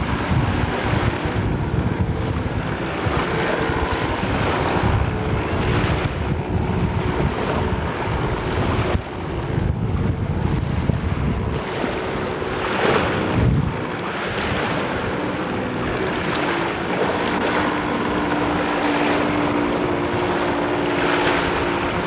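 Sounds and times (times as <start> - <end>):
jet ski engine droning: 0.0 - 22.0
wind buffeting microphone: 0.0 - 22.0.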